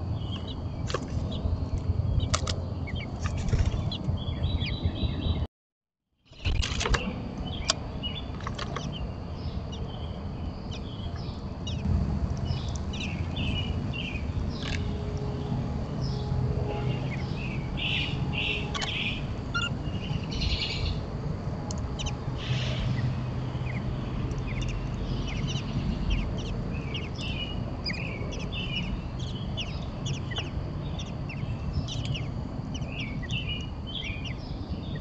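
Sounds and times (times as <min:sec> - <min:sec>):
songbirds chirping: 0:00.0 - 0:05.5, 0:06.2 - 0:35.0
steady low hum: 0:06.5 - 0:35.0.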